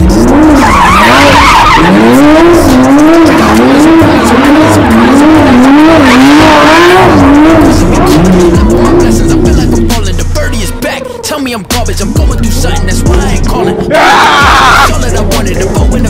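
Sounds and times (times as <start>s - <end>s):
tyres squealing and skidding: 0.0s - 11.4s, 12.6s - 16.0s
car engine revving: 0.0s - 16.0s.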